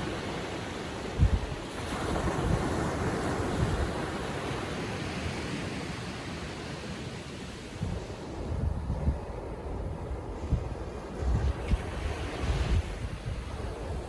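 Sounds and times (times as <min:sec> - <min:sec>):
wind buffeting microphone: 0:00.0 - 0:06.5, 0:07.5 - 0:14.0
small waves washing on beach: 0:00.0 - 0:14.0.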